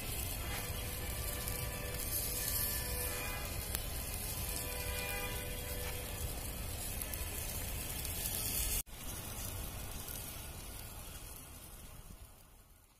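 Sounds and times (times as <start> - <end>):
fish sizzling over charcoal: 0.0 - 12.9.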